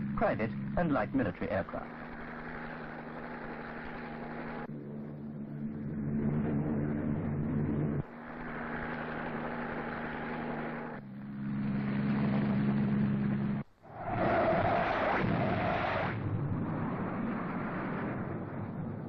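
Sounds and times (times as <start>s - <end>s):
propeller aircraft droning: 0.0s - 19.0s.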